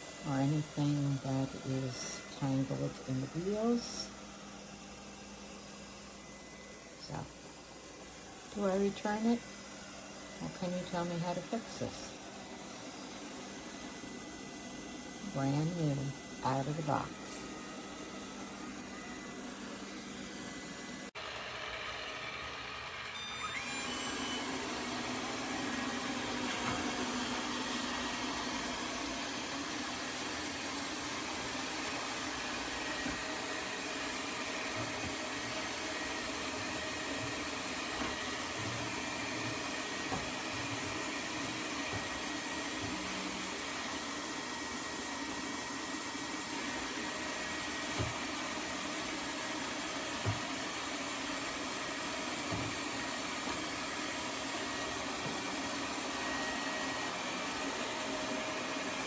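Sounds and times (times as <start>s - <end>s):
robot vacuum whirring: 0.0s - 59.0s.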